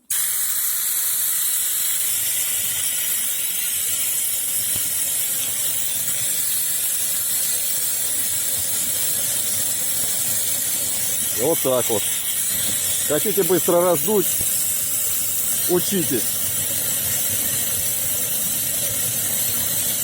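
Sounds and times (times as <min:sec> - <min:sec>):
forced air hissing: 0:00.0 - 0:20.0.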